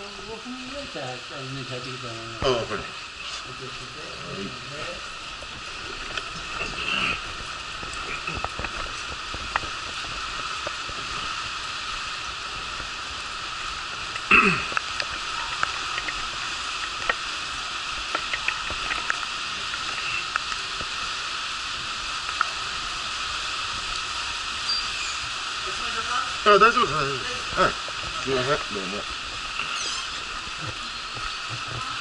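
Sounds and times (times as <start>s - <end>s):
rain falling: 0.0s - 32.0s
water dripping: 0.0s - 32.0s.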